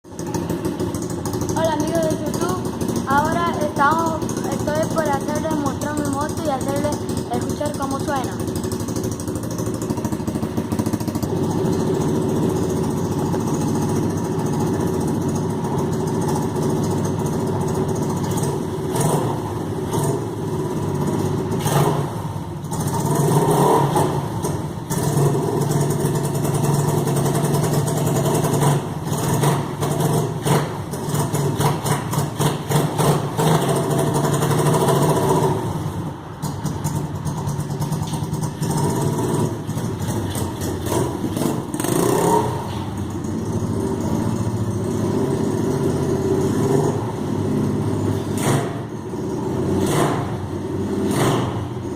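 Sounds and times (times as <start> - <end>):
pit bike engine revving: 0.1 - 51.9.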